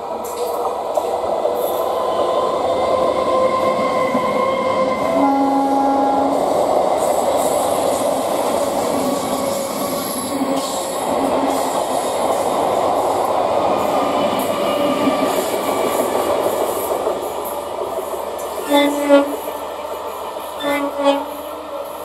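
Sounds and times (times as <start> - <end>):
electric train rumbling on rails: 0.0 - 22.0.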